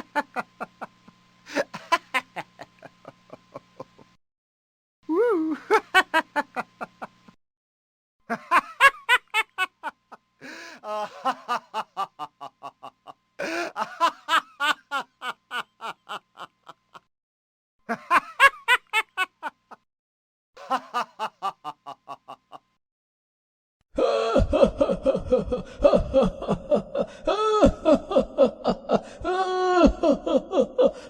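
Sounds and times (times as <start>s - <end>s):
person laughing: 0.0s - 0.9s, 1.5s - 4.2s, 5.1s - 7.1s, 8.3s - 17.1s, 17.9s - 19.8s, 20.6s - 22.6s, 24.0s - 31.0s.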